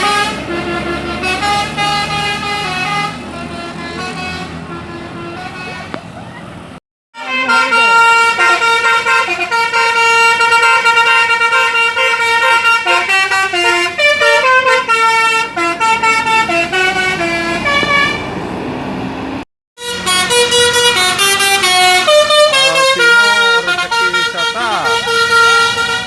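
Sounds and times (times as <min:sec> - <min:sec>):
bus musical horn playing a tune: 0:00.0 - 0:06.1, 0:07.2 - 0:18.4, 0:19.8 - 0:26.0.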